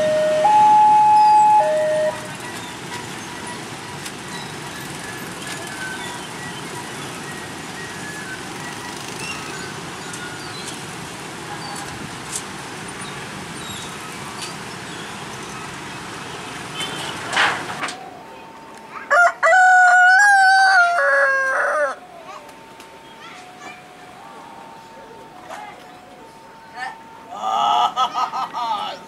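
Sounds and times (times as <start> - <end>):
motorcycles idling: 0.0 - 16.9, 22.0 - 29.0
diesel locomotive running slowly: 0.0 - 20.0, 22.0 - 29.0.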